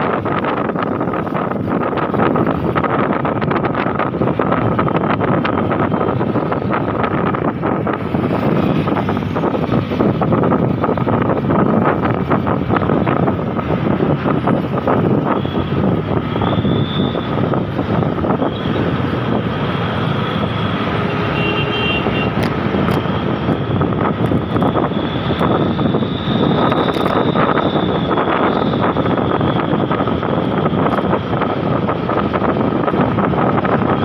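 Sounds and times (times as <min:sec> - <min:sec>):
wind buffeting microphone: 0:00.0 - 0:21.0, 0:22.2 - 0:34.0.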